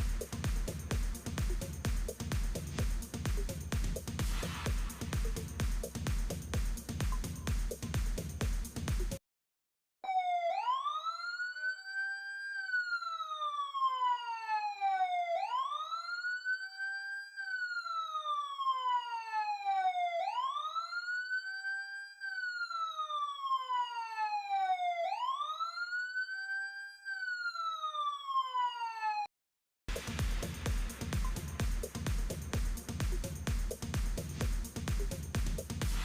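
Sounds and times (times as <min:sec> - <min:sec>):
electronic alarm siren wailing: 0:00.0 - 0:08.0, 0:10.0 - 0:29.3, 0:30.6 - 0:36.0.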